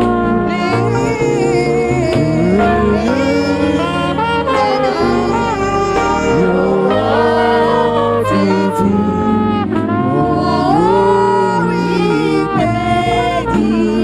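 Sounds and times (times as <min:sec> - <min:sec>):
live gospel worship music: 0:00.0 - 0:14.0.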